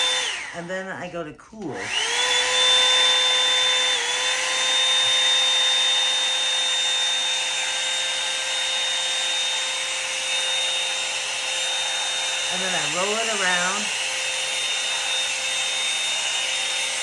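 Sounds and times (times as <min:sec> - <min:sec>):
hot air brush motor whine: 0:00.0 - 0:00.8, 0:01.8 - 0:17.0.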